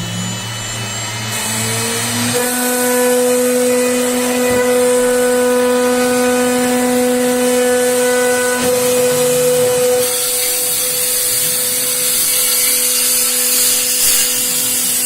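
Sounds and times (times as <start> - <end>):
router spindle high-pitched whine: 0.0 - 15.0
hiss of cutting wood: 1.0 - 15.0.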